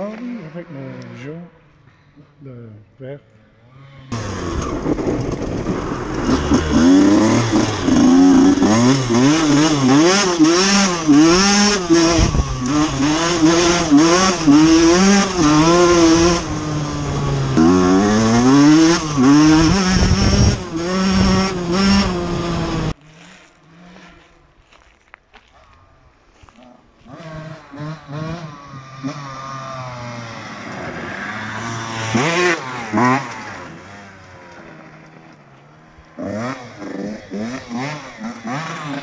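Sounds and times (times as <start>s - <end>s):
motorcycle engine revving: 3.7s - 24.5s, 26.4s - 39.0s.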